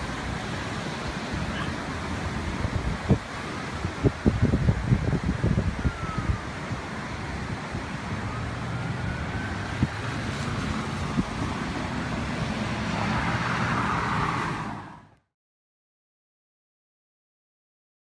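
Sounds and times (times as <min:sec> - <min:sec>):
creek rushing: 0:00.0 - 0:15.1.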